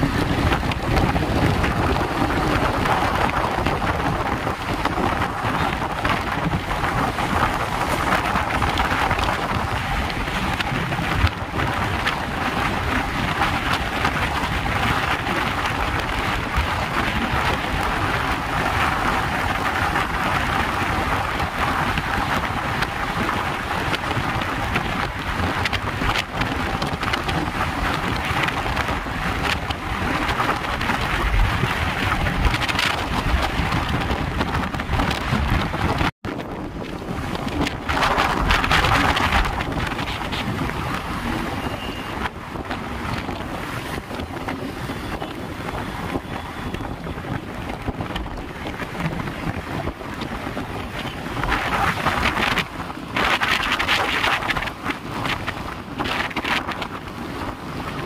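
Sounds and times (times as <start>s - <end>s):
road and traffic noise: 0.0s - 58.0s
wind noise on microphone: 0.0s - 58.0s.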